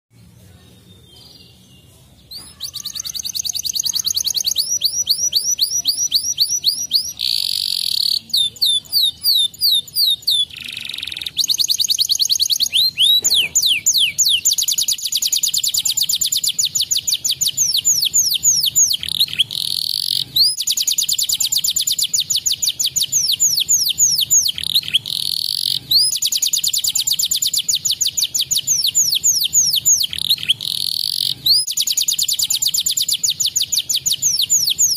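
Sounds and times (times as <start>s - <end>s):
canary singing trills: 0.5s - 34.9s.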